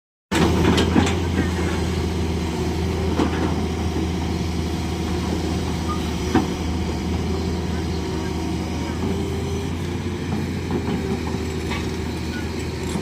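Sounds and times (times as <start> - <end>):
diesel engine running: 0.3 - 13.0.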